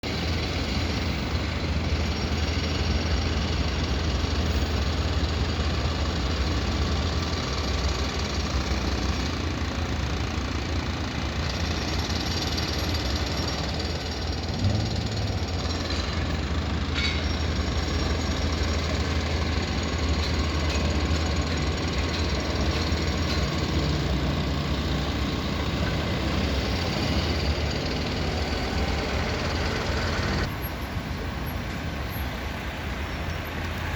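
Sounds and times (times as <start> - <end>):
engines rumbling: 0.0 - 33.9.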